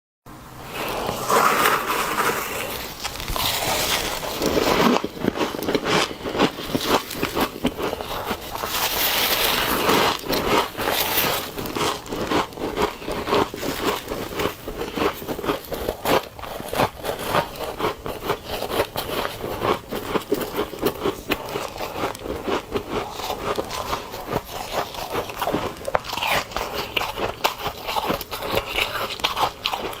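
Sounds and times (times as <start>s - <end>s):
ice crunching being chewed: 0.8s - 30.0s.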